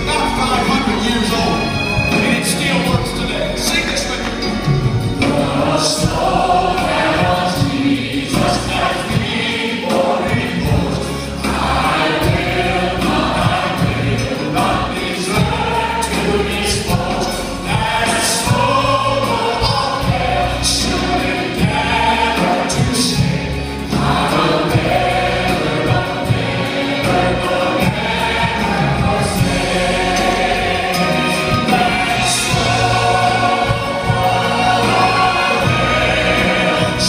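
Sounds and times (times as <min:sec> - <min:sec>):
choir singing gospel song: 0:00.0 - 0:37.0
instrumental accompaniment: 0:00.0 - 0:37.0.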